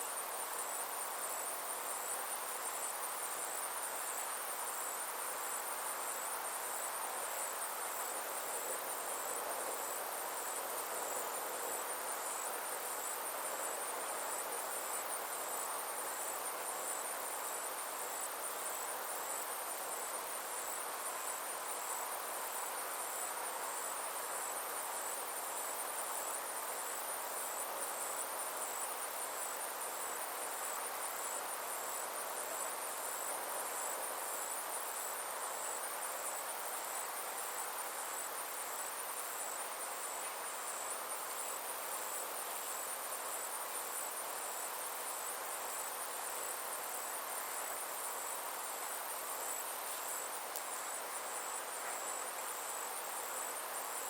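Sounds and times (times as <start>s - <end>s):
faint repeating insect call: 0.0s - 54.0s
soft outdoor hiss: 0.0s - 54.0s.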